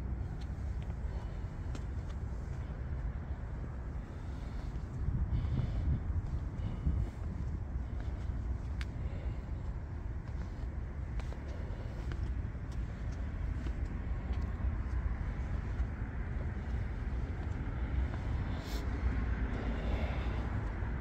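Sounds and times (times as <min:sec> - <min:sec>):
low outdoor rumble and hiss: 0:00.0 - 0:21.0.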